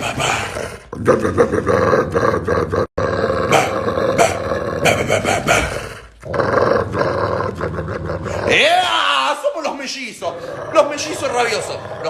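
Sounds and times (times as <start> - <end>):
dog growling and snarling: 0.0 - 8.7, 10.2 - 12.0.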